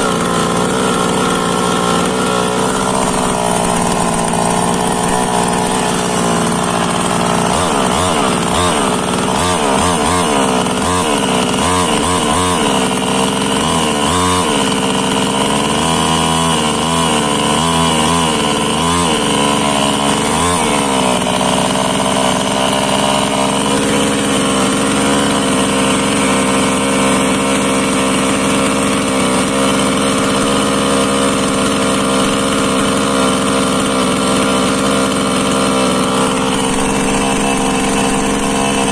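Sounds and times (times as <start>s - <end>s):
chainsaw engine revving and idling: 0.0s - 38.9s.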